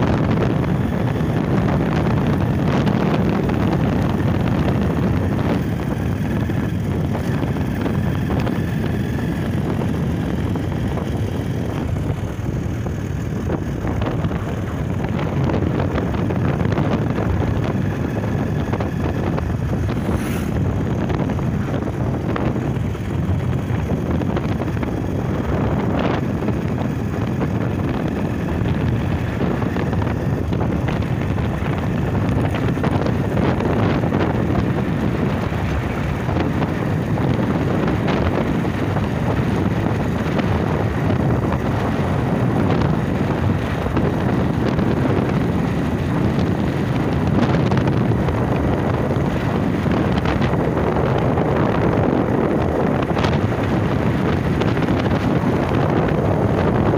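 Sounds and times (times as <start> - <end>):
motorcycle engine running: 0.0 - 56.9
wind buffeting microphone: 0.0 - 56.9.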